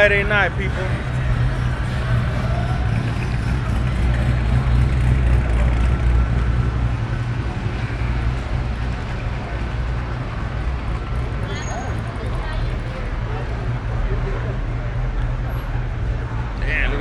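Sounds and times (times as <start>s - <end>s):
car engines rumbling past: 0.0s - 17.0s.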